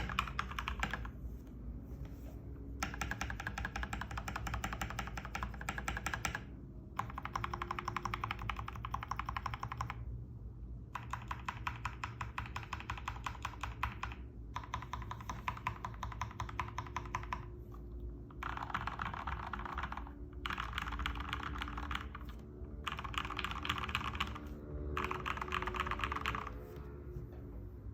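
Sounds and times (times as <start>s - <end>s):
mechanical keyboard typing: 0.0s - 1.1s, 2.8s - 10.1s, 10.9s - 26.7s.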